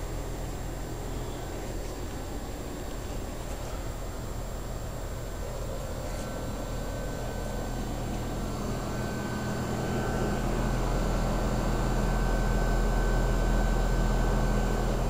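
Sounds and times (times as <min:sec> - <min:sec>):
compressor hum: 0:00.0 - 0:15.0
condenser fan rushing: 0:00.0 - 0:15.0.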